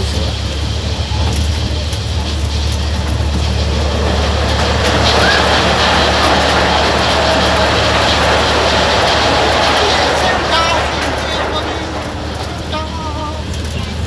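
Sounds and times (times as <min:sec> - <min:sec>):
miniature train running: 0:00.0 - 0:14.0.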